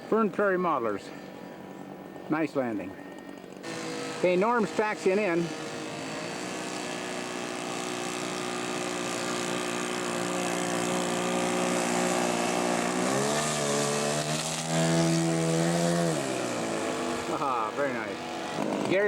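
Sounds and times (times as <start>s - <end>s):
model airplane engine running: 3.6s - 19.0s.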